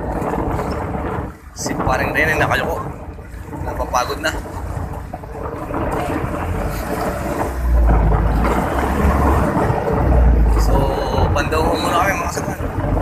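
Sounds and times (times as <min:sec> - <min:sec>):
low engine hum: 0:00.0 - 0:13.0
sea wash: 0:00.0 - 0:13.0
wind rumbling on microphone: 0:00.0 - 0:13.0.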